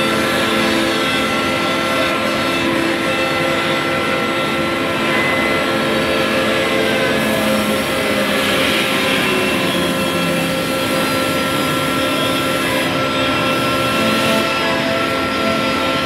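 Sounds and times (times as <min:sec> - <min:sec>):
machine cutting wood: 0:00.0 - 0:16.0
router spindles whining: 0:00.0 - 0:16.0.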